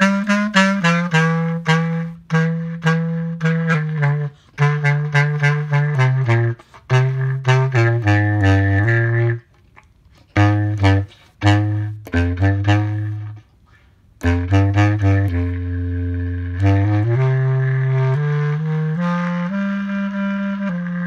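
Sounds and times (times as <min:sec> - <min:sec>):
bass clarinet playing low notes: 0:00.0 - 0:09.6, 0:10.2 - 0:21.0.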